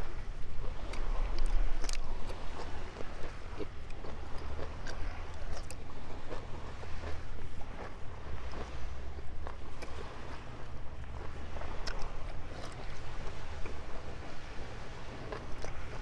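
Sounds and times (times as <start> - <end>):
man chewing with wet mouth smacks: 0.0 - 16.0
wind rumble on microphone: 0.0 - 16.0.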